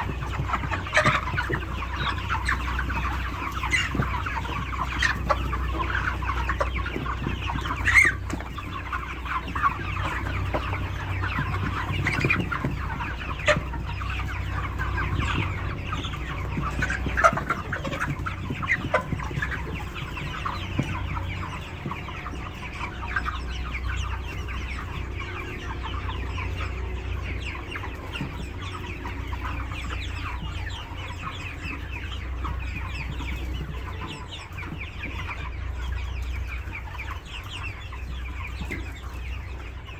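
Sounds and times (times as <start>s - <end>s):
chickens clucking and chattering: 0.0s - 39.9s
sharp chicken calls: 0.0s - 39.9s.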